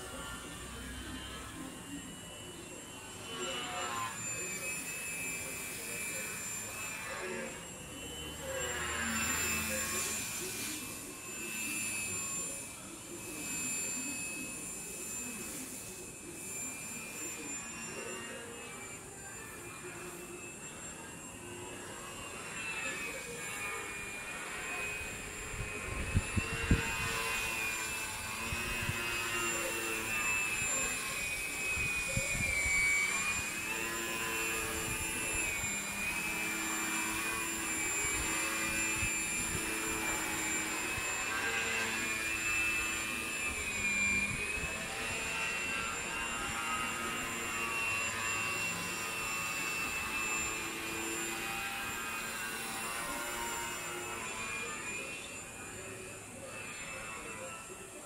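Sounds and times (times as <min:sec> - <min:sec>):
model plane motor whine: 0:00.0 - 0:58.0.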